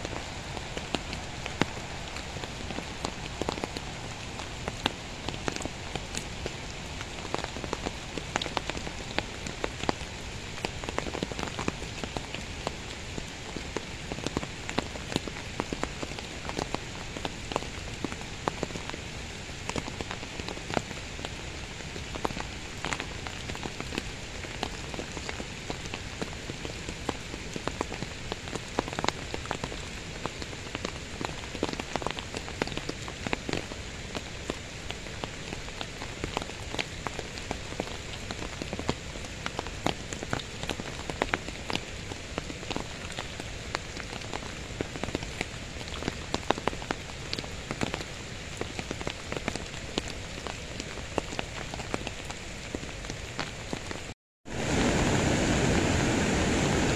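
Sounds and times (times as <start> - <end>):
raindrops ticking close by: 0.0 - 55.6
heavy rain falling: 0.0 - 56.9.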